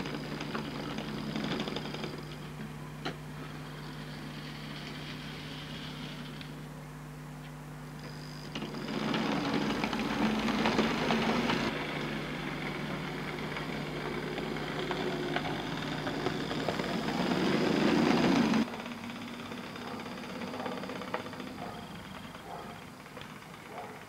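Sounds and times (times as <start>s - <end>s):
model train motor whirring: 0.0s - 6.7s, 8.0s - 24.0s
wheels clicking on rails: 0.0s - 6.7s, 8.0s - 24.0s.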